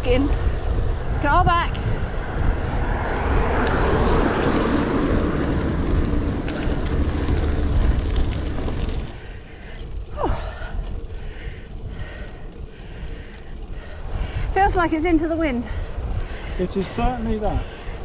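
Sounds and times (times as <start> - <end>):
wind rumble on microphone: 0.0 - 18.0
car overtaking: 0.5 - 18.0.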